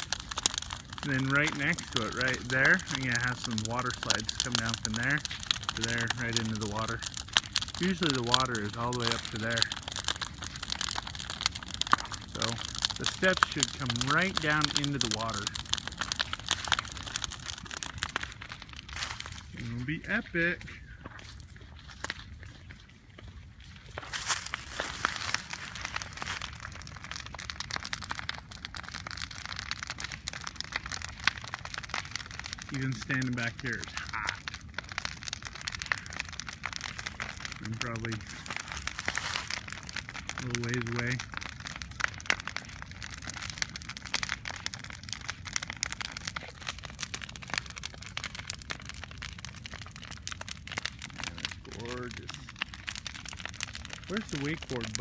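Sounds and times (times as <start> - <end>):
bonfire crackling and popping: 0.0 - 55.0.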